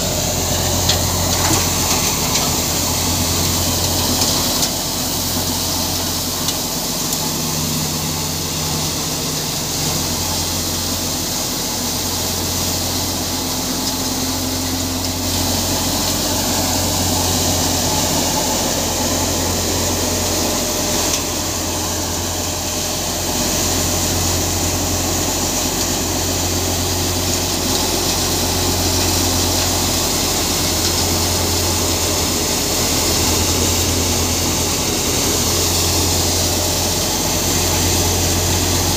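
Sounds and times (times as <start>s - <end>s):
tractor engine humming: 0.0s - 38.9s.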